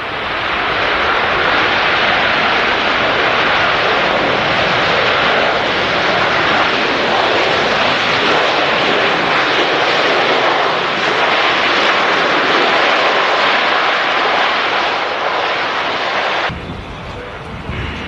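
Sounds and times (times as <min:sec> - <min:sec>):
jet airliner roar: 0:00.0 - 0:18.0.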